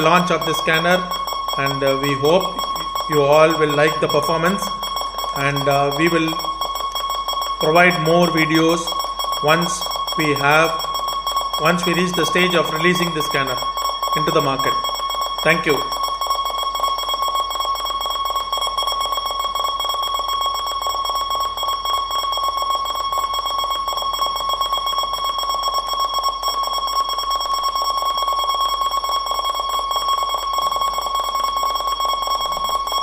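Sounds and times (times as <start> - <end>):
barcode scanner beeping: 0.0 - 33.0.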